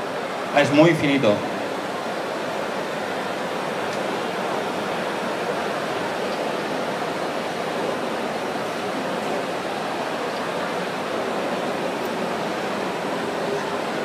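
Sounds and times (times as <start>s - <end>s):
room noise hiss: 0.0s - 14.0s.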